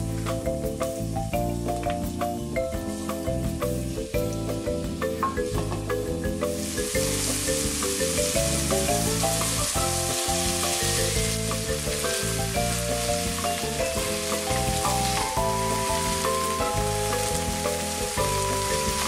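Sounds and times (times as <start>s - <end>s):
background music: 0.0s - 19.0s
food sizzling in a frying pan: 2.8s - 19.0s.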